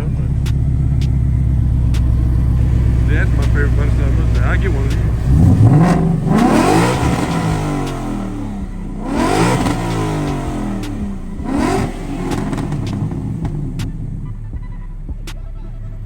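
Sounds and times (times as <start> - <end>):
sharp cracks: 0.0 - 2.5, 3.4 - 14.0
car engine revving: 0.0 - 16.0.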